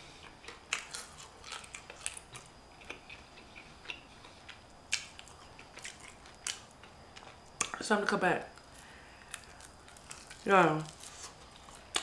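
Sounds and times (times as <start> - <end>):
chewing crispy chicken: 0.2 - 7.8, 8.5 - 12.0.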